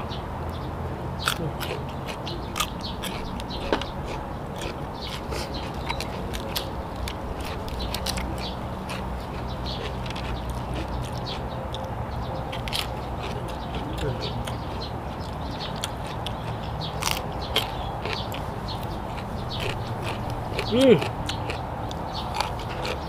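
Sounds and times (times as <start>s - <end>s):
person crunching raw vegetables: 1.2s - 23.0s.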